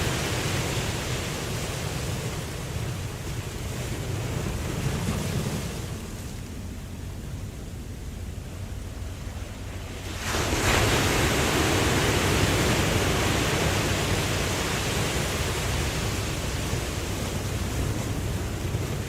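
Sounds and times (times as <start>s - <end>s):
low noise of the sea: 0.0s - 19.0s
ocean wave breaking: 0.0s - 19.0s.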